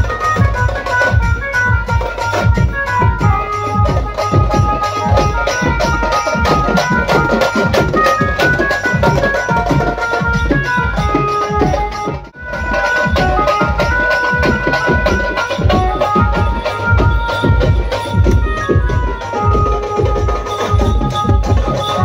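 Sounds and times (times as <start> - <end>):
melody over drums: 0.0 - 22.0
procession drumming: 0.0 - 22.0.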